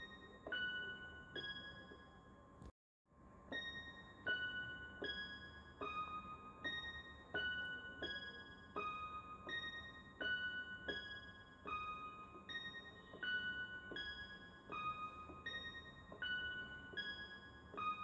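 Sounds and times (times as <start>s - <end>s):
piano-like keyboard notes: 0.0s - 18.0s.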